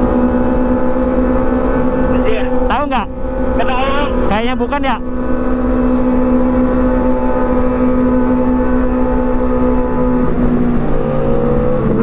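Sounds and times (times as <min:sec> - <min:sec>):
motorcycle engine at high revs: 0:00.0 - 0:12.0
road and wind rumble: 0:00.0 - 0:12.0.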